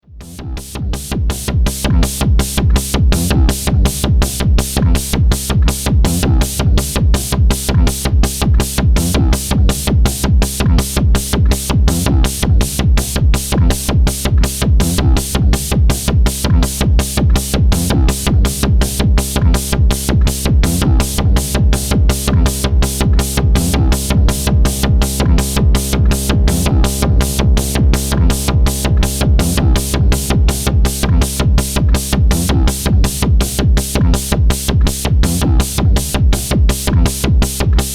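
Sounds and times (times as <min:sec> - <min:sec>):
electronic drum beat: 0:00.0 - 0:37.9
sustained low bass tone: 0:00.0 - 0:37.9.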